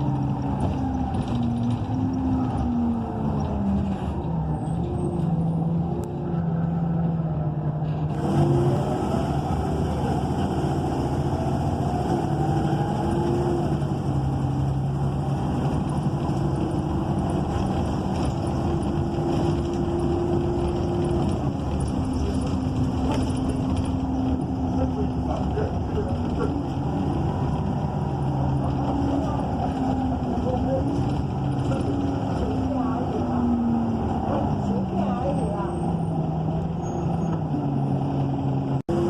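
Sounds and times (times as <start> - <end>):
bus engine running: 0.0 - 39.0.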